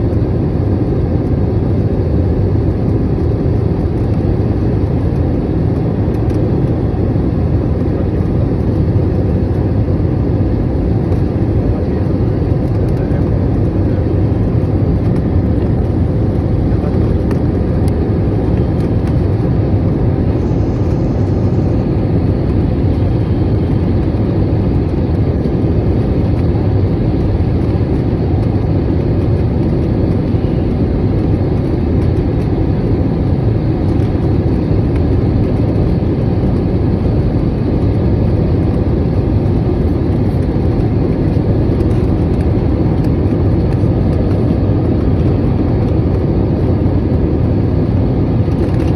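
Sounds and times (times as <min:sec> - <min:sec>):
jet engine and airflow rush in cabin: 0:00.0 - 0:48.9.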